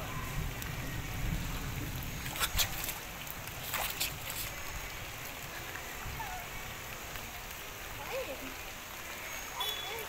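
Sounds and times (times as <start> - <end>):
heavy rain hissing: 0.0 - 10.0
splashes in shallow water: 0.0 - 10.0.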